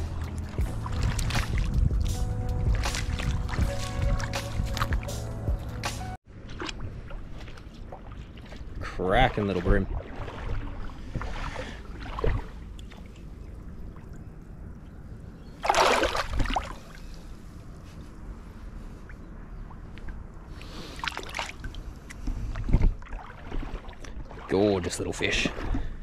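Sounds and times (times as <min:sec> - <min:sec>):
shallow water splashing: 0:00.0 - 0:05.2, 0:06.3 - 0:17.5, 0:18.8 - 0:26.0.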